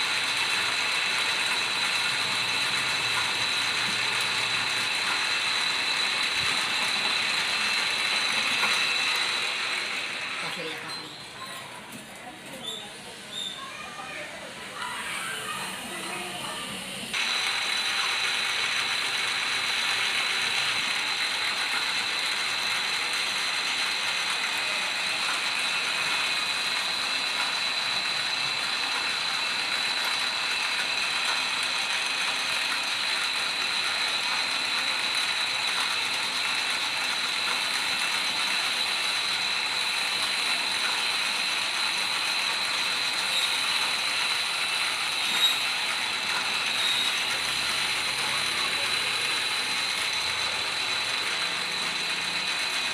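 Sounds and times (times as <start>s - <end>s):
lathe gear whine and rattle: 0.0s - 11.4s, 16.6s - 52.9s.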